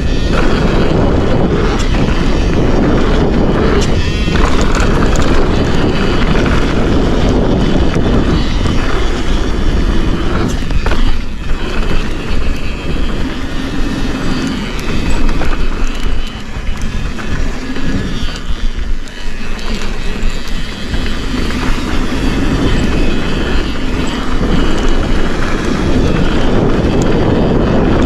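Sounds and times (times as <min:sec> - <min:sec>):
bike knocking and rattling: 0:00.0 - 0:28.0
tyres on dirt trail: 0:00.0 - 0:28.0
wind rush on microphone: 0:00.0 - 0:28.0.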